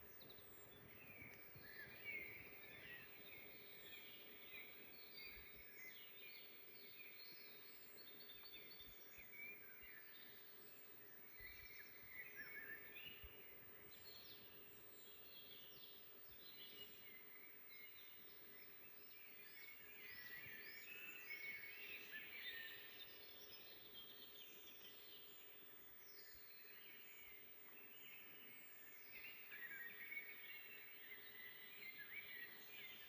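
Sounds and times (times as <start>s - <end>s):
songbirds singing and chirping: 0.0s - 33.0s.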